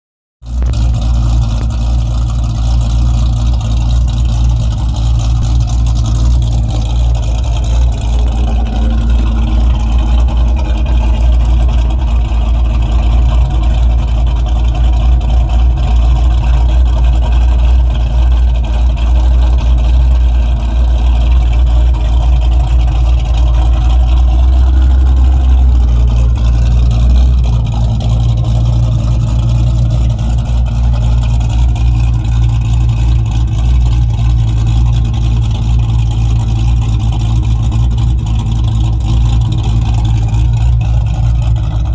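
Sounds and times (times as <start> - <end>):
car engine idling with a lope: 0.4 - 41.9.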